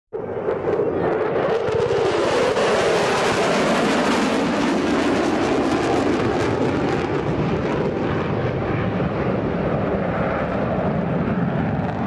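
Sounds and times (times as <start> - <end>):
jet flying past: 0.2 - 12.0.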